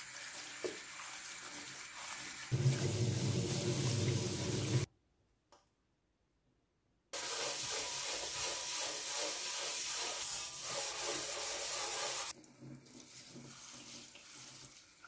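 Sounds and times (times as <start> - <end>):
brush scrubbing metal sink: 0.1 - 4.9, 7.2 - 15.0.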